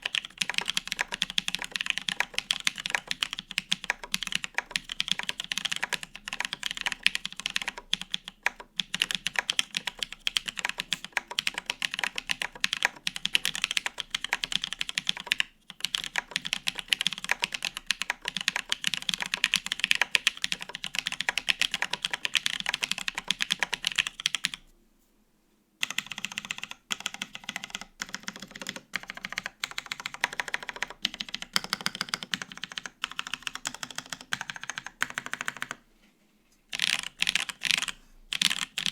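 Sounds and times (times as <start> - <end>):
fast mechanical keyboard typing: 0.0 - 24.6, 25.8 - 35.8, 36.7 - 38.9.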